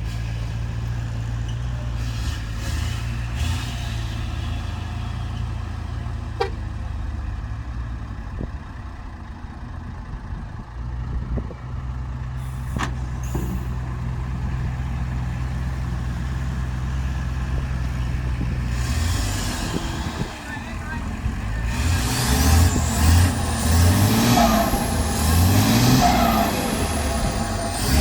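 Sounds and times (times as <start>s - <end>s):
diesel truck engine running: 0.0s - 28.0s.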